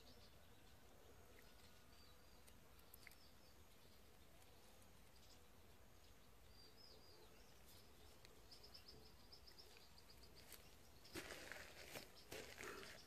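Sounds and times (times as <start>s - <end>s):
faint distant bird chirps: 0.0s - 13.0s.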